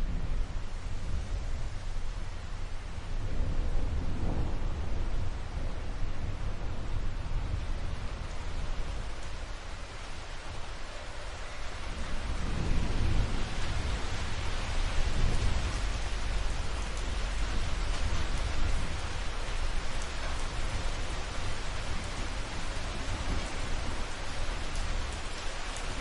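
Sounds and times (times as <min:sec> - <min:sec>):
thunder rumbling: 0:00.0 - 0:09.4, 0:11.8 - 0:26.0
rain falling: 0:00.0 - 0:26.0.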